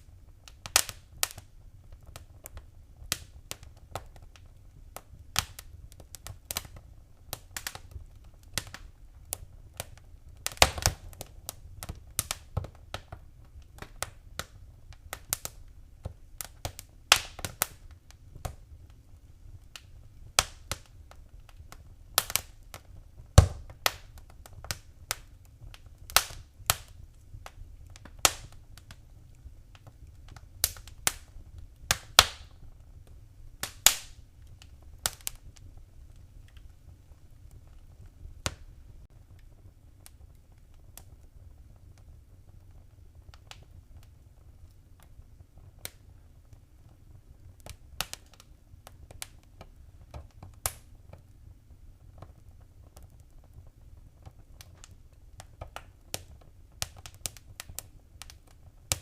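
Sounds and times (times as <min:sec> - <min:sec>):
faint low rumble: 0:00.0 - 0:56.8
fire crackling and popping: 0:00.0 - 0:59.0.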